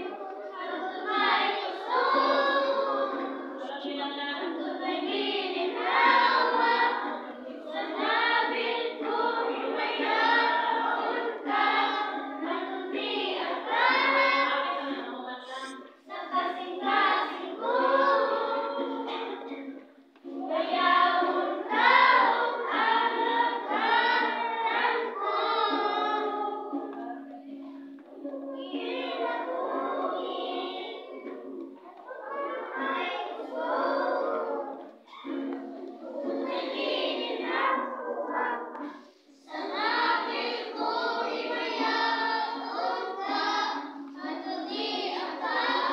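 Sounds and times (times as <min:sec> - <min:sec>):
children singing together: 0:00.0 - 0:45.9.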